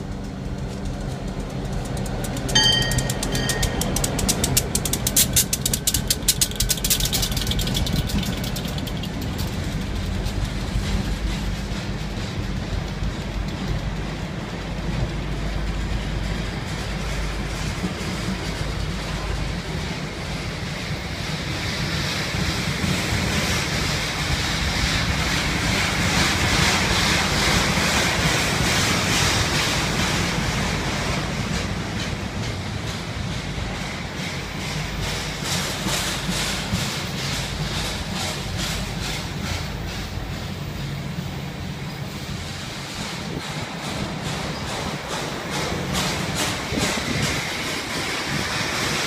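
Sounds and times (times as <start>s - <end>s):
locomotive engine drone: 0.0s - 49.0s
train rolling rumble: 0.0s - 49.0s
wheels clicking on track: 0.0s - 49.0s.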